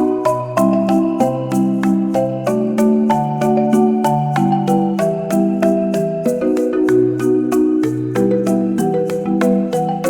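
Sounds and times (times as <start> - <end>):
light background melody: 0.0 - 10.0.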